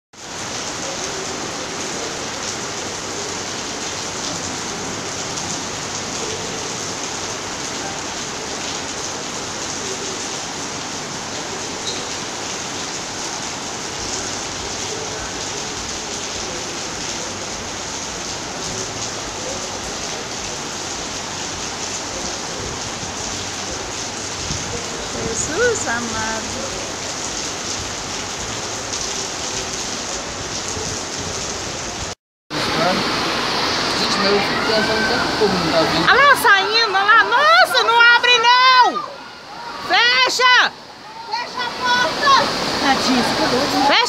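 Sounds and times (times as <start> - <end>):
floodwater rushing: 0.2 - 44.0
heavy rain pouring: 0.2 - 44.0.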